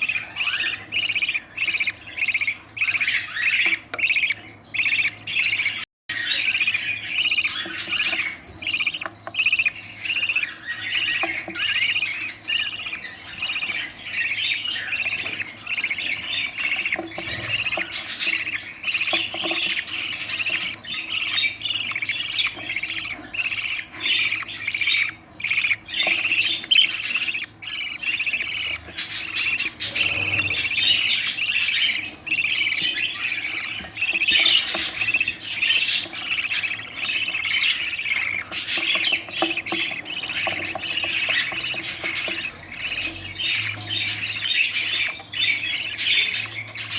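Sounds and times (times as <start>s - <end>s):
budgerigars squawking and chirping: 0.0s - 46.9s.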